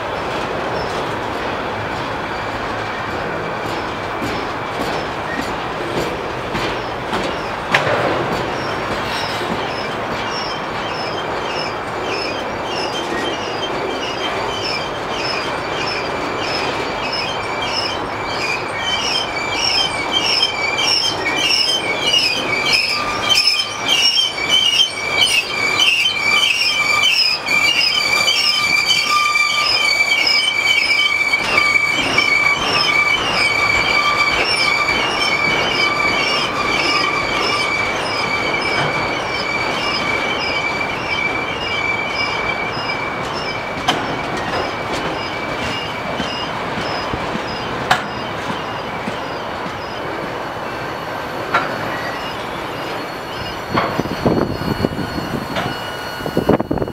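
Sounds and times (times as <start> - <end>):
train rumbling and clicking: 0.0 - 56.9
train wheels squealing: 0.0 - 56.9.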